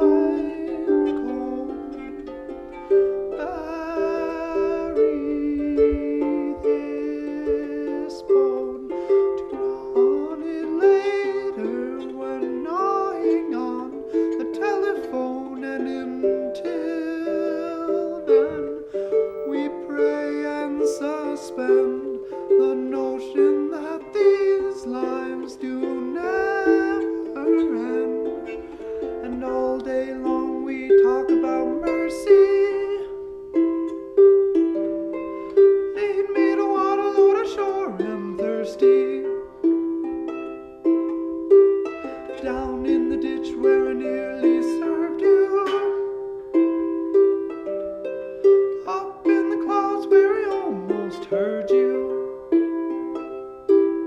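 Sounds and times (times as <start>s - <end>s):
plucked string instrument: 0.0s - 54.0s.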